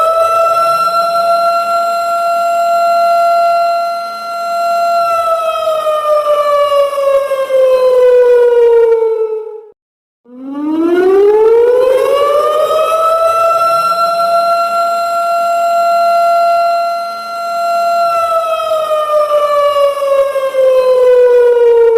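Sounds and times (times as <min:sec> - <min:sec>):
electronic siren wail: 0:00.0 - 0:21.9.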